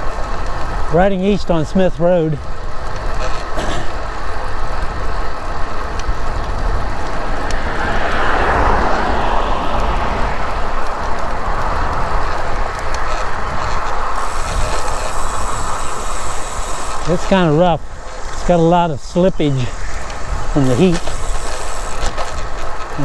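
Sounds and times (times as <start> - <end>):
road noise on rough asphalt: 0.0 - 23.0
wind buffeting microphone: 2.6 - 23.0
vehicle passing: 3.1 - 23.0.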